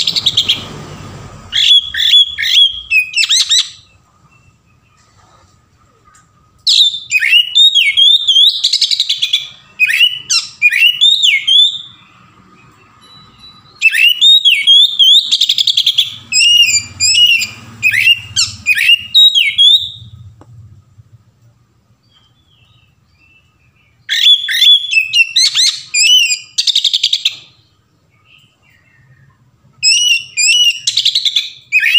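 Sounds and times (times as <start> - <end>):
bird singing whistled song: 1.5 - 4.9, 6.7 - 20.2, 22.0 - 31.9.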